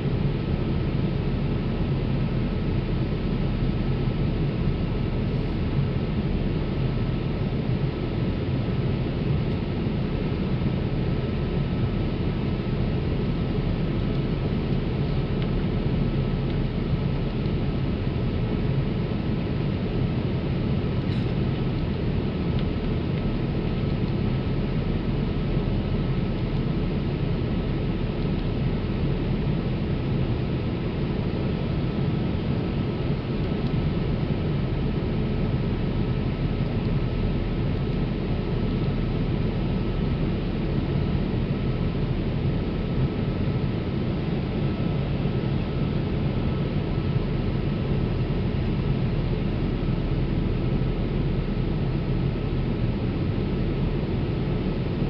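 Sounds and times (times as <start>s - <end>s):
airplane cabin airflow and engine: 0.0s - 55.0s
faint steady whine: 0.0s - 55.0s.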